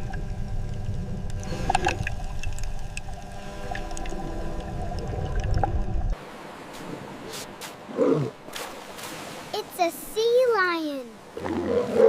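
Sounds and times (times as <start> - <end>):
low rumbling water: 0.0 - 9.8.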